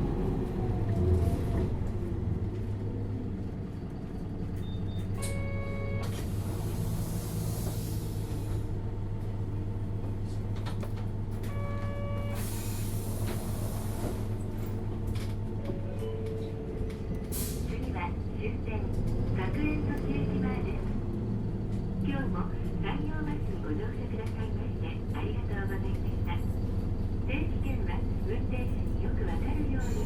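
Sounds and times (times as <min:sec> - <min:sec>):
bus engine hum: 0:00.0 - 0:30.0.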